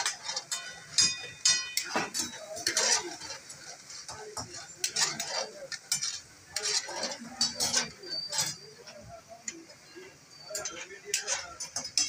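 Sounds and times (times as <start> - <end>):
metal spatula scraping iron pan: 0.0 - 9.1, 10.3 - 12.0.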